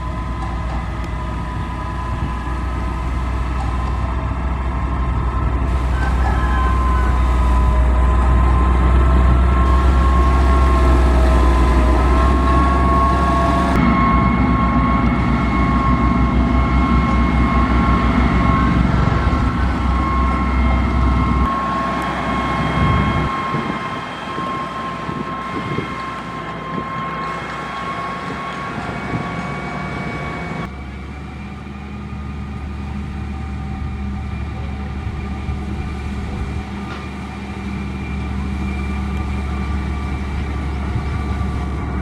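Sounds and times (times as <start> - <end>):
heavy construction machinery running: 0.0 - 42.0.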